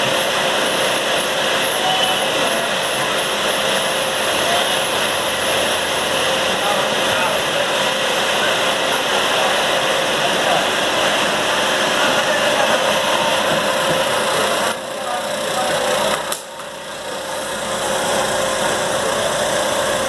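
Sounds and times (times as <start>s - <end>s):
cutting machine motor whir: 0.0s - 20.0s.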